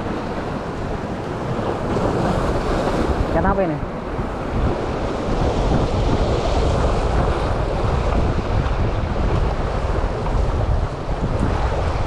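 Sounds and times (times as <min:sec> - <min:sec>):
sea waves breaking on rocks: 0:00.0 - 0:12.0
wind rumbling on microphone: 0:00.0 - 0:12.0.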